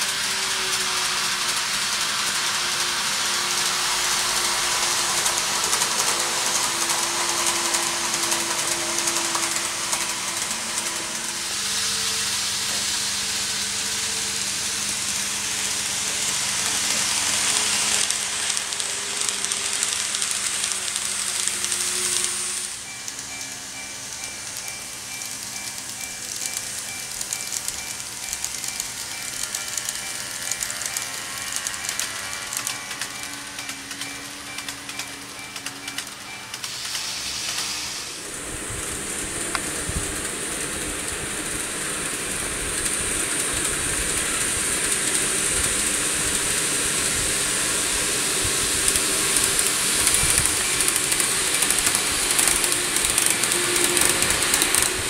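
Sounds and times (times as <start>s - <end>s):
model train motor whine: 0.0s - 55.0s
model train wheels clicking on rails: 0.0s - 55.0s.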